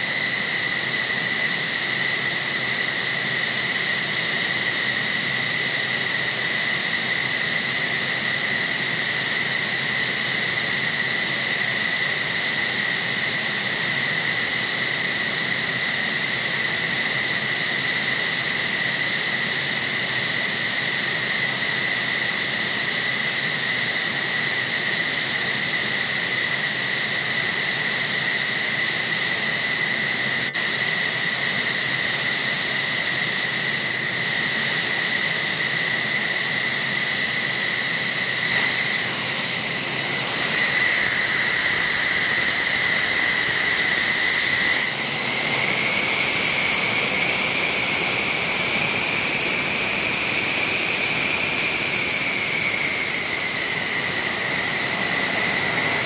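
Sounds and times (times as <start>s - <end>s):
jet engines idling: 0.0s - 56.0s.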